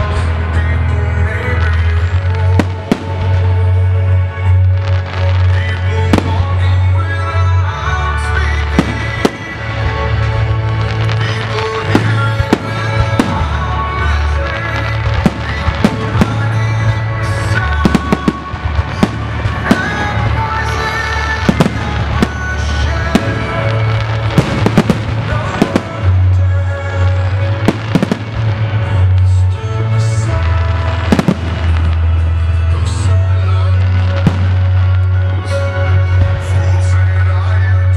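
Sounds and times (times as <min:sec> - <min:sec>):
loud show music with deep bass: 0:00.0 - 0:37.9
fireworks bursting in sharp bangs: 0:01.4 - 0:37.6.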